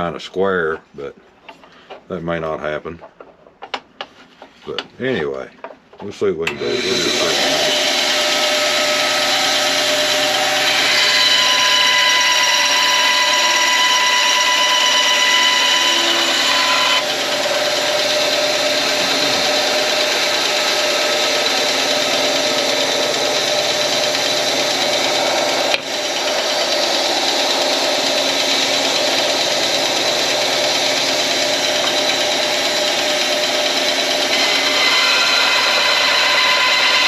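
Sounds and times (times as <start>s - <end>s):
power saw cutting antler: 6.4s - 37.0s.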